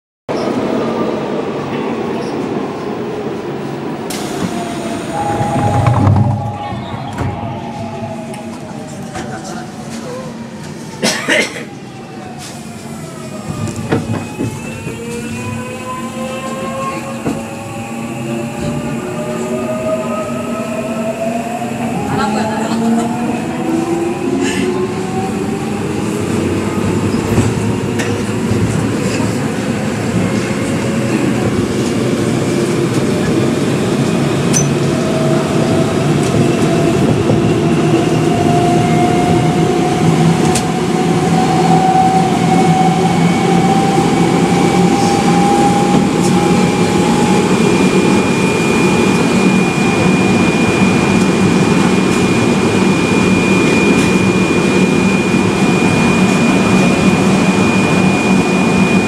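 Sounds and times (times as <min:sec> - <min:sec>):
train wheels rumbling on rails: 0:00.3 - 0:59.0.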